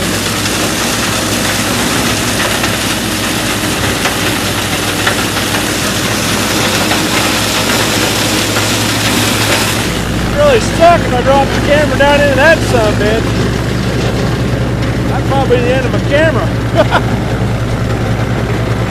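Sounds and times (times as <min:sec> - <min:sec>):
flail chopper shredding stalks: 0:00.0 - 0:18.9
tractor engine under load: 0:00.0 - 0:18.9.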